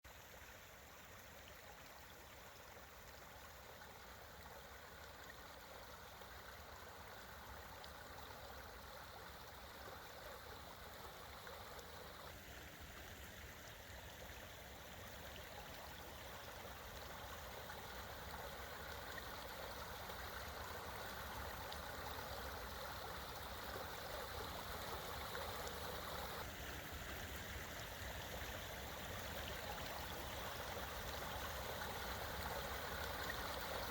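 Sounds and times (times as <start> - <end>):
creek water rushing: 0.0 - 33.9.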